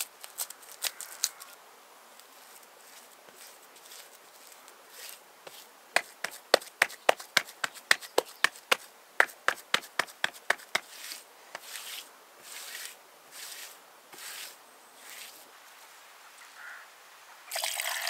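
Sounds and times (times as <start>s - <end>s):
soft scraping or rustling: 0.0s - 16.0s.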